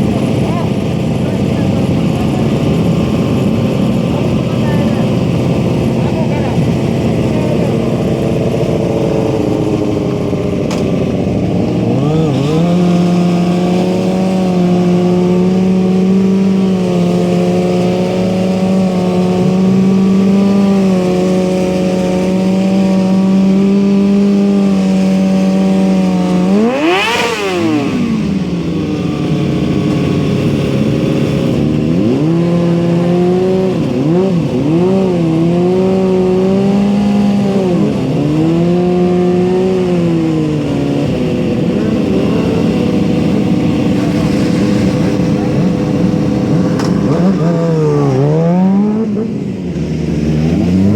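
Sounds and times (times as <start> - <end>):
engine revving: 0.0 - 50.9.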